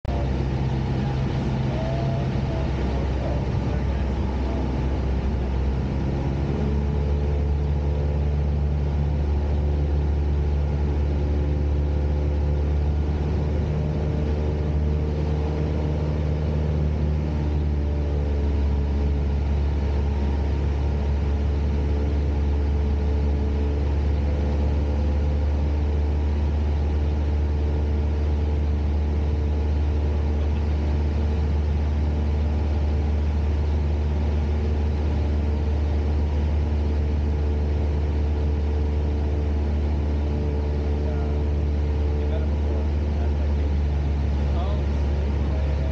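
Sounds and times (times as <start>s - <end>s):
propeller plane engine droning: 0.0s - 45.9s.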